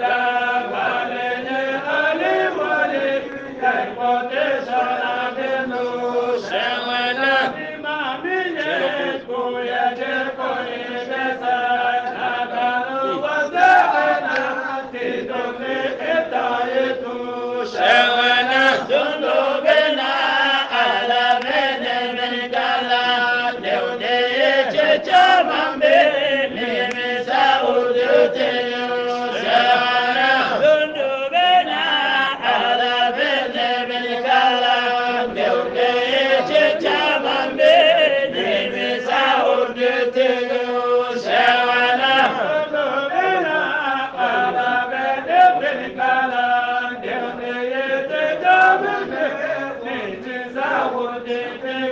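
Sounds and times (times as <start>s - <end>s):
voices chanting a religious poem: 0.0s - 51.9s.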